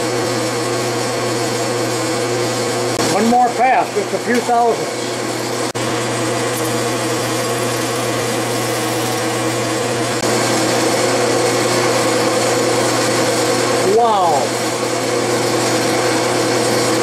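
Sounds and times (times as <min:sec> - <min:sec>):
metal lathe motor hum: 0:00.0 - 0:17.0.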